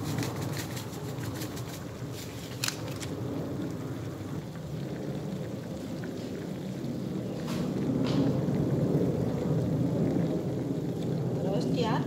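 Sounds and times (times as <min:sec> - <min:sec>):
broth bubbling in a wok: 0:00.0 - 0:12.0.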